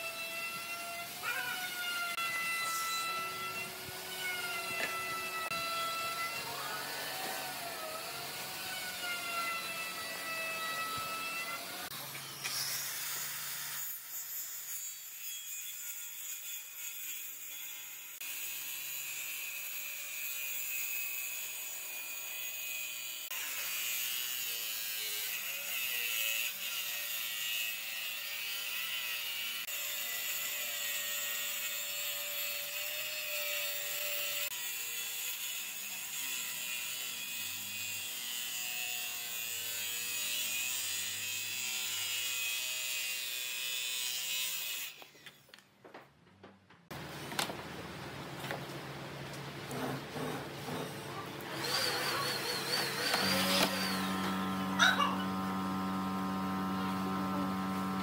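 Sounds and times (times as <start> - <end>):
circular saw cutting wood: 0.0 - 45.5, 49.7 - 58.0.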